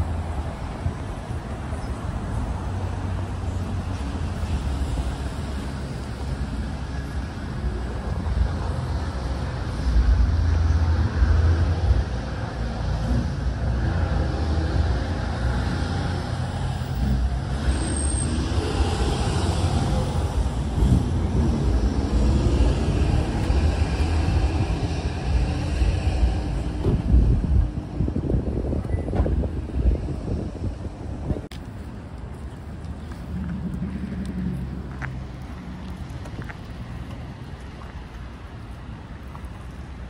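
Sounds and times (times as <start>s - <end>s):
passing vehicles rumbling: 0.0s - 40.0s.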